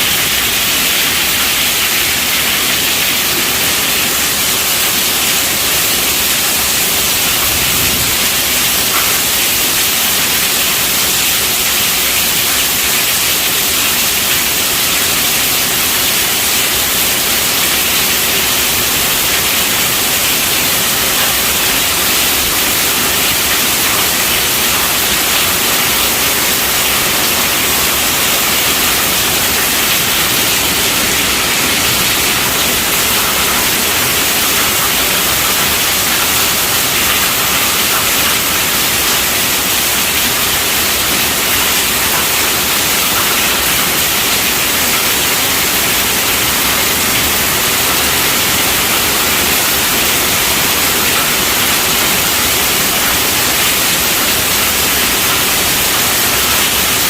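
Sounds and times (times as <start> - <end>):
heavy rain on a tent roof: 0.0 - 57.0.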